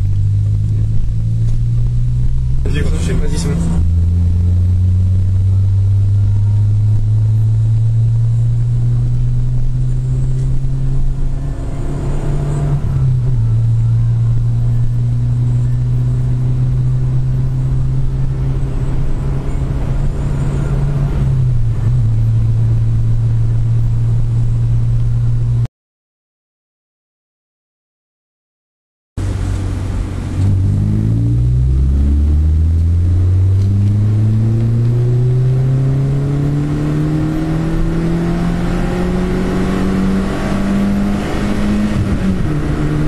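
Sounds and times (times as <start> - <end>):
car engine low rumble: 0.0 - 25.7, 29.2 - 43.0.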